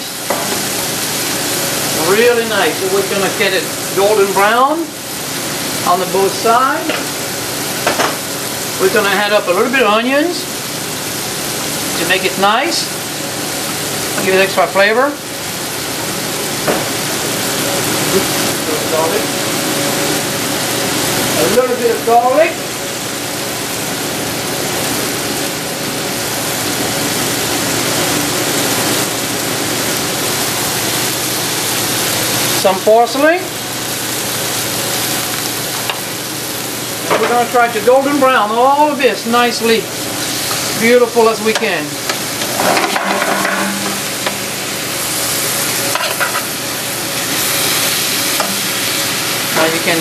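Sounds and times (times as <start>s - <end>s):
food sizzling in oil: 0.0s - 50.0s.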